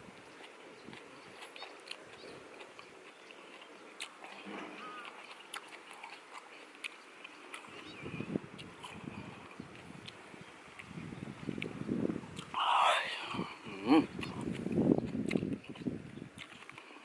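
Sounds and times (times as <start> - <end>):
biting and chewing crab: 0.3 - 10.9, 12.4 - 17.0.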